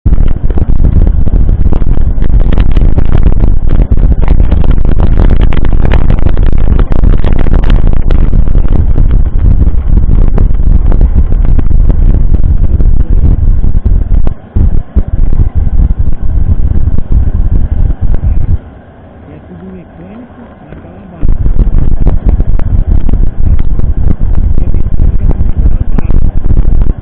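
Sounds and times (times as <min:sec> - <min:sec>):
wind buffeting and rumble: 0:00.0 - 0:27.0.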